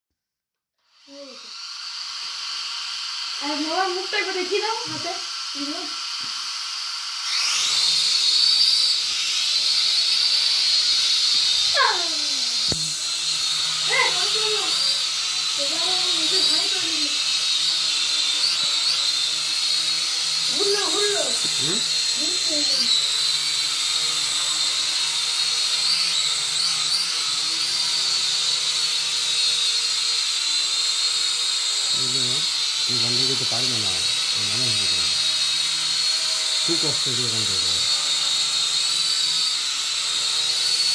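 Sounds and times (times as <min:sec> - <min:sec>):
toy drone propellers whining: 0:00.8 - 0:40.9.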